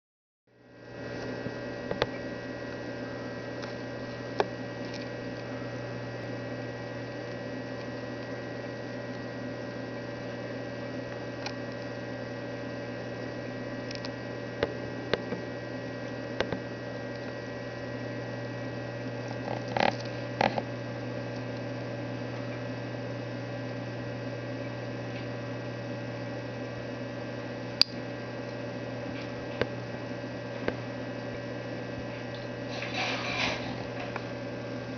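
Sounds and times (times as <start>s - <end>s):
aquarium pump humming: 0.5s - 34.9s.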